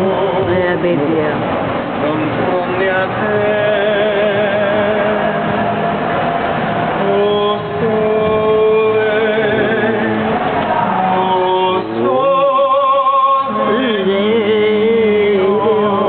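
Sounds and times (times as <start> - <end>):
person singing operatic song: 0.0 - 1.0, 2.0 - 6.0, 6.9 - 16.0.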